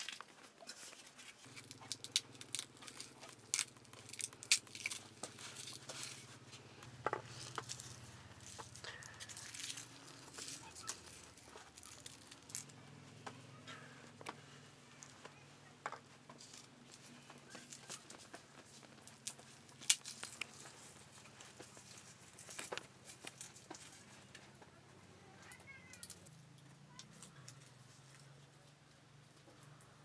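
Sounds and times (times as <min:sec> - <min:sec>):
hands working bread dough: 0:00.0 - 0:26.0.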